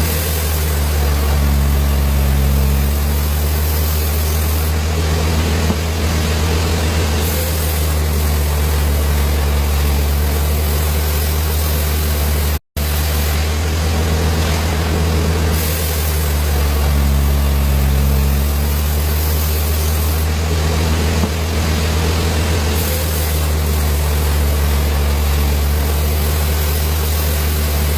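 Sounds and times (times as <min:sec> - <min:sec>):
lathe motor humming: 0:00.0 - 0:27.9.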